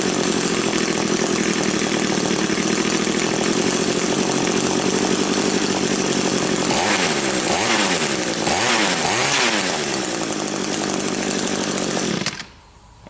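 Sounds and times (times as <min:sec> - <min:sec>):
string trimmer engine revving: 0:00.0 - 0:12.6.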